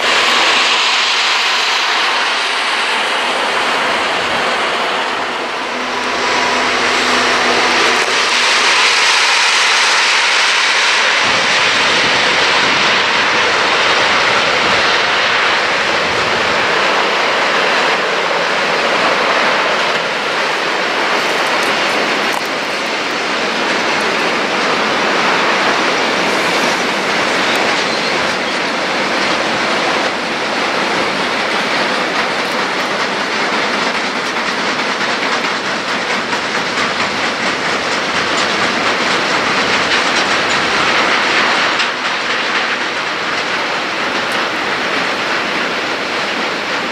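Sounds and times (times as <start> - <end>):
train wheels running over rails: 0.0 - 46.9.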